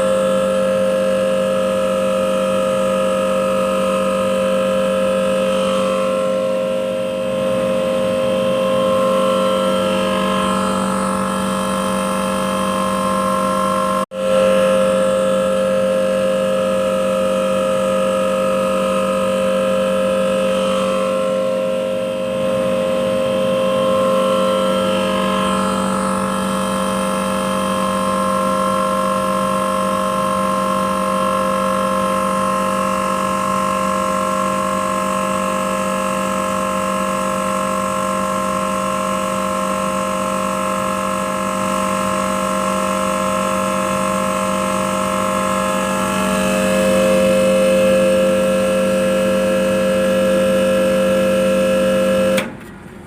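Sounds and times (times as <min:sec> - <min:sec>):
air conditioner compressor humming: 0:00.0 - 0:53.0.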